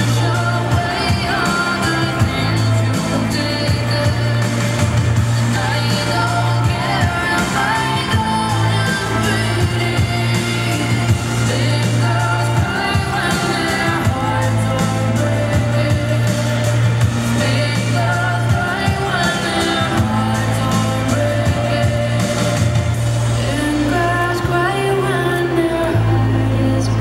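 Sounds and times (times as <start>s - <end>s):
pop song with vocals: 0.0s - 27.0s.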